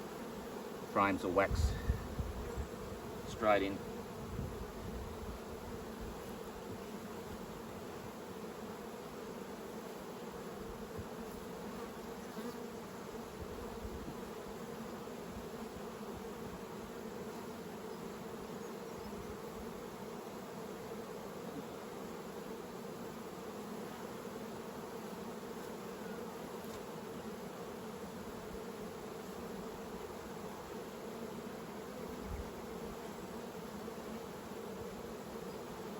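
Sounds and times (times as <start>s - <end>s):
honey bees buzzing: 0.0s - 35.9s.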